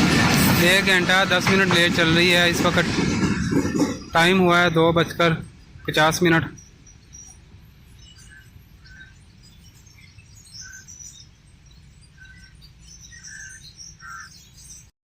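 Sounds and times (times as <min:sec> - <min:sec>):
birds chirping: 0:00.3 - 0:14.9.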